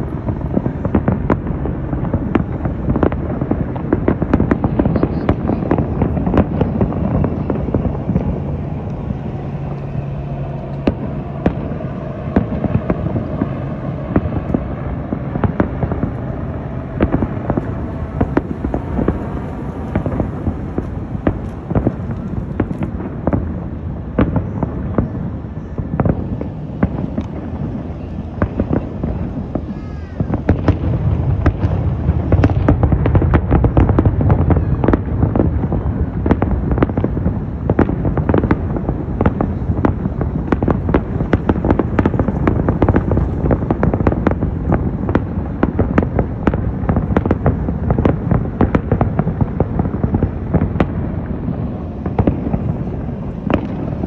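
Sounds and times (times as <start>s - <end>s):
faint firework whistles: 0.0s - 54.0s
fireworks bangs: 0.0s - 54.0s
low rumble: 0.0s - 54.0s.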